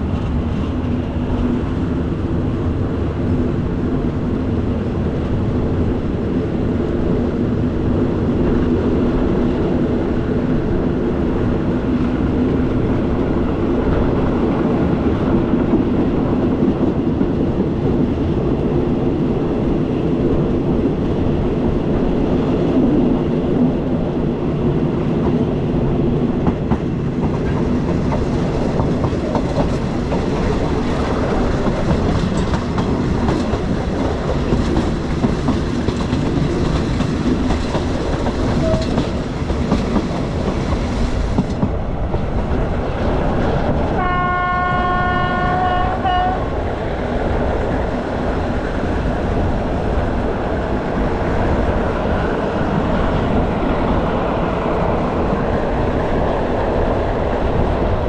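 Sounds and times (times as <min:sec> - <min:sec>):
clickety-clack of rail joints: 0:00.0 - 0:58.0
train wheels rumbling on rails: 0:00.0 - 0:58.0.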